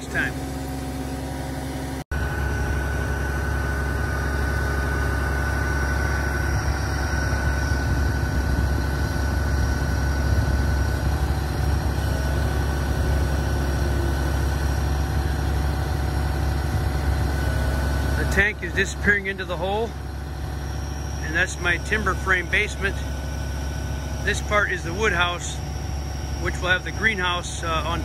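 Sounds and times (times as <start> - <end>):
diesel engine running: 0.0 - 28.0
thin steady whine: 0.0 - 28.0.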